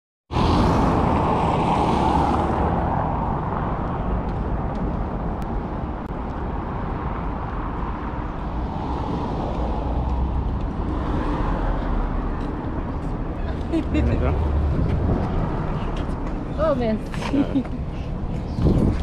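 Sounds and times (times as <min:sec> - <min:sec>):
road traffic rumble: 0:00.3 - 0:19.0.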